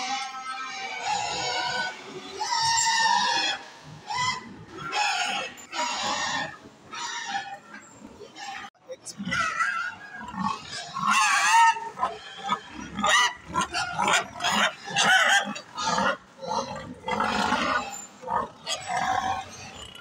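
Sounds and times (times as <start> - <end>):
pigs squealing and grunting: 0.0 - 20.0.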